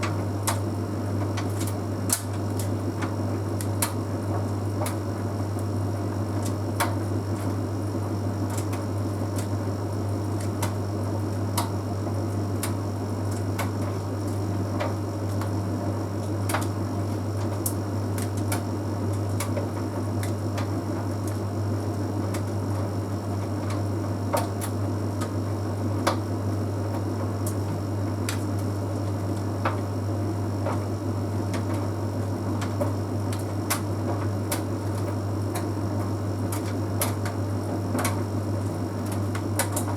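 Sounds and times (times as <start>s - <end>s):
dryer drum clicks and ticks: 0.0s - 7.6s, 8.4s - 39.9s.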